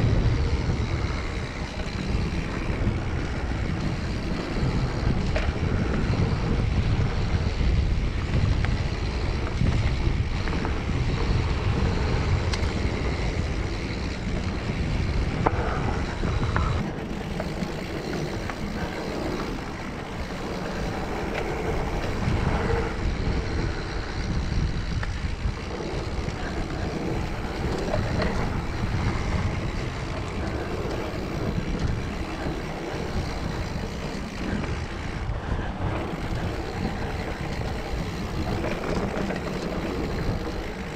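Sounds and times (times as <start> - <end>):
bike clicks and rattles: 0.0 - 40.9
bike tyres rolling over dirt: 0.0 - 40.9
wind rumbling on microphone: 0.0 - 40.9.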